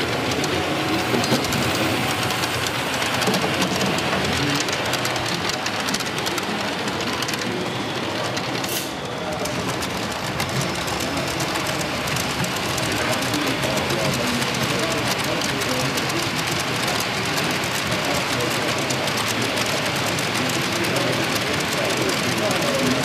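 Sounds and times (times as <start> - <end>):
model train wheels clicking: 0.0 - 23.0
model trains running: 0.0 - 23.0.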